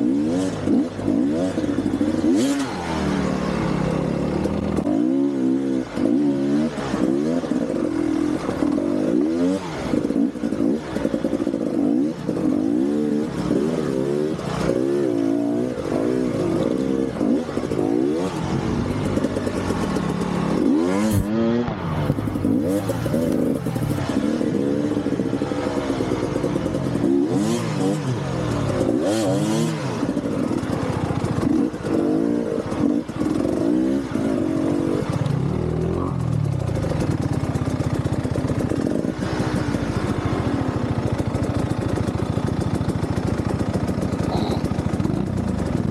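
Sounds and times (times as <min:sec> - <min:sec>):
motorcycle engine revving: 0:00.0 - 0:45.9
clatter: 0:00.3 - 0:45.9.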